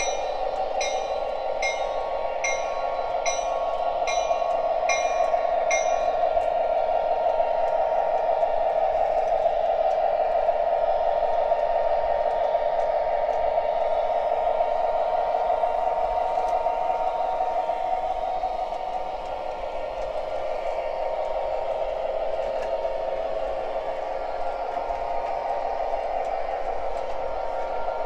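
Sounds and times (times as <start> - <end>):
model train running on track: 0.0 - 28.0.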